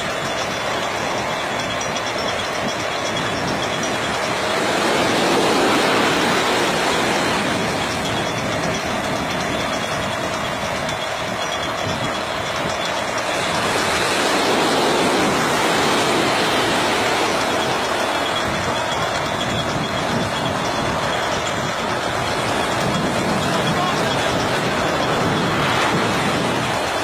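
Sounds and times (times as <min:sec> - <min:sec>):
machinery running with hum: 0:00.0 - 0:27.0.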